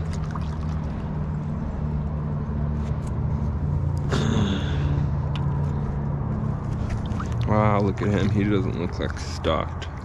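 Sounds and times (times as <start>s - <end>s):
low mechanical rumble with hum: 0.0s - 10.0s.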